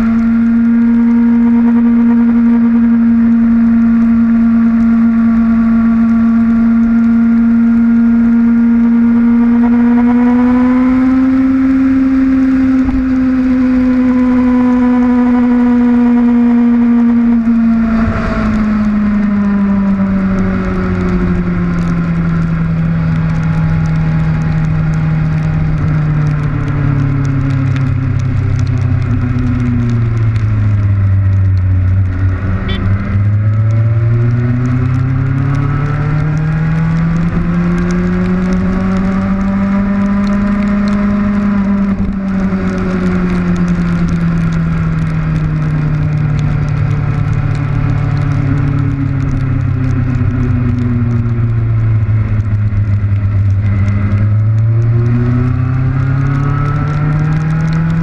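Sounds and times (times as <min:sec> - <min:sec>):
motorcycle engine: 0:00.0 - 0:58.0
rain hitting camera: 0:00.0 - 0:58.0.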